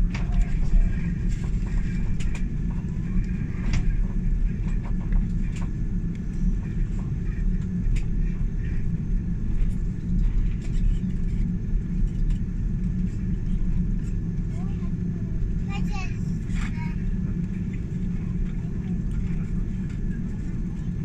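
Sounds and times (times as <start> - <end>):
jet engines and wheels rumbling: 0.0 - 21.0.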